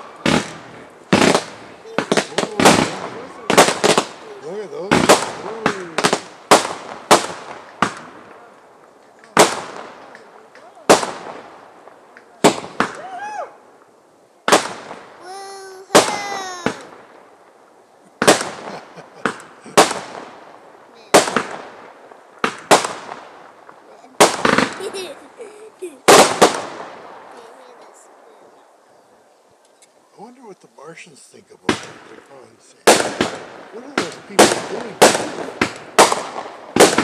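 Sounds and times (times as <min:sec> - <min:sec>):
fireworks bursting with echo: 0:00.0 - 0:28.8, 0:30.2 - 0:37.0.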